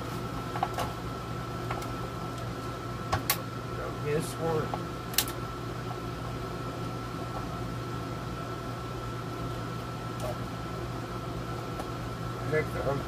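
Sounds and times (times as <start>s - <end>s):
air conditioner humming: 0.0s - 13.0s
thin steady whine: 0.0s - 13.0s.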